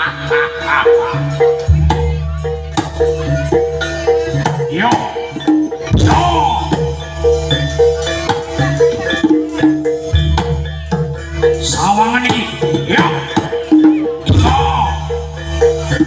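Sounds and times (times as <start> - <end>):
drums: 0.0 - 16.0
metal mallet instruments: 0.0 - 16.0.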